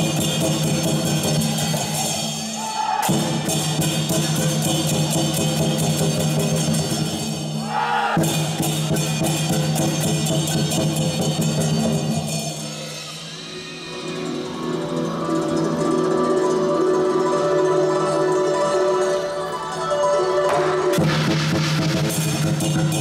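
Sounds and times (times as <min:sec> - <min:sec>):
cymbals clashing: 0:00.0 - 0:23.0.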